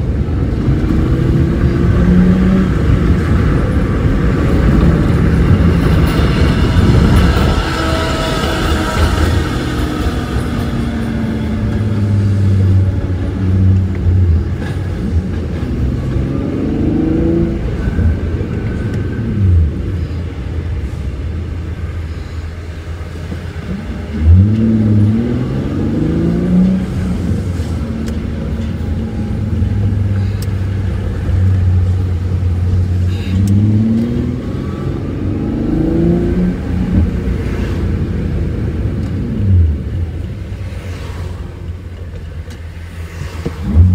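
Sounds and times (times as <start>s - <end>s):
car engine accelerating: 0.0s - 20.2s, 23.0s - 43.9s.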